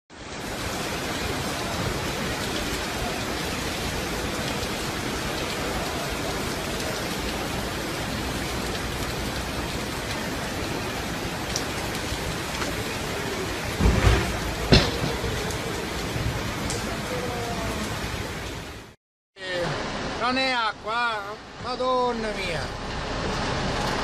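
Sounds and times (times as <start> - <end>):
heavy rain pouring: 0.1 - 24.0.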